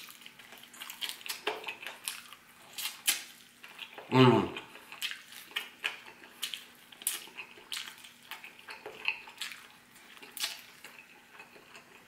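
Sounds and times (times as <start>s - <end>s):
wet mouth eating sounds: 0.0s - 12.0s.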